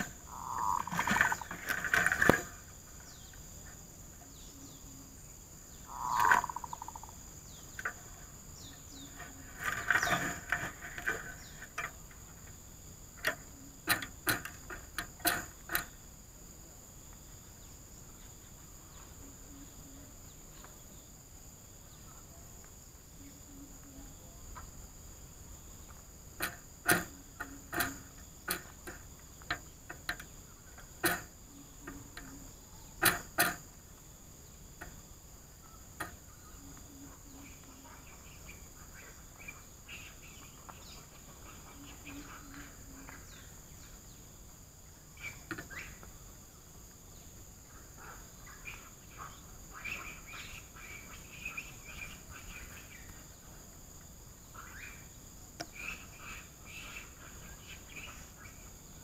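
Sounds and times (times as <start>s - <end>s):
insect buzz: 0.0s - 59.0s.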